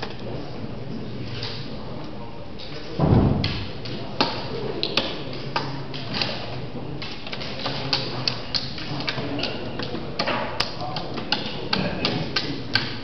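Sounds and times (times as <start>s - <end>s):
low background din: 1.7s - 13.0s.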